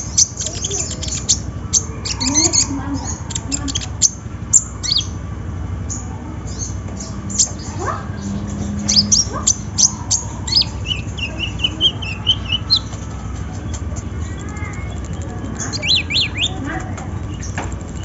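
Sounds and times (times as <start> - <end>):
bird twittering: 0.0 - 5.2, 5.8 - 18.0
sunbird chirping: 0.0 - 5.2, 5.8 - 18.0.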